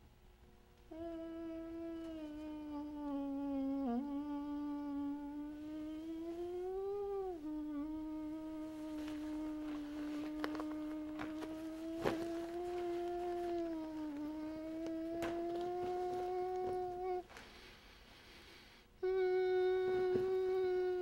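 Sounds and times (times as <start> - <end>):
person humming: 0.8 - 17.7, 19.0 - 21.0.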